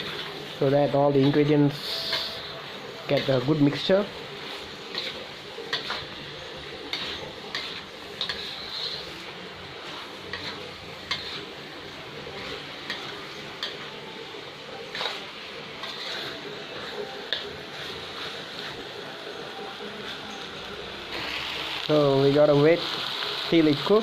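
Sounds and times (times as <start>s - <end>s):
chicken sizzling in butter: 0.0s - 24.0s.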